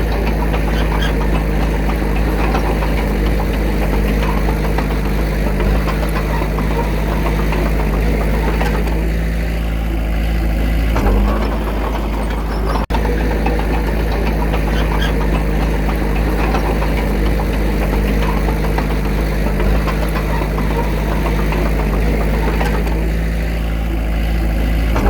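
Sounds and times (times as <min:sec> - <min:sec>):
diesel engine clattering: 0:00.0 - 0:25.0.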